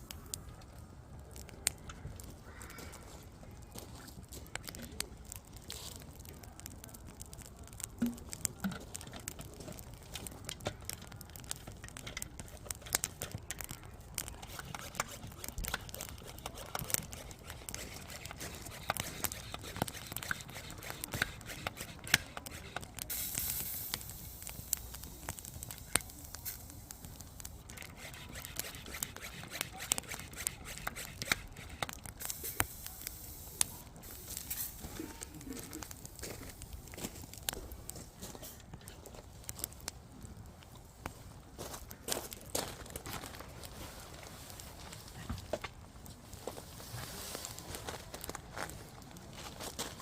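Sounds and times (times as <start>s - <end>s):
campfire crackling and popping: 0.0s - 50.0s
fire hissing: 4.2s - 49.8s.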